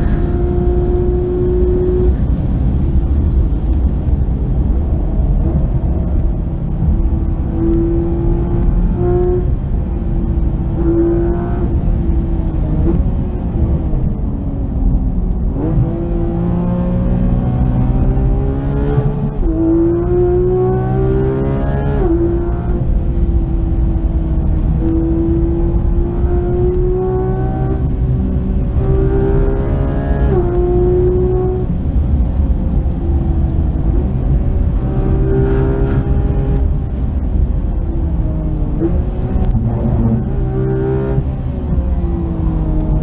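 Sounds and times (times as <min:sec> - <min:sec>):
road and wind rumble: 0:00.0 - 0:43.0
sports car engine revving: 0:00.0 - 0:43.0.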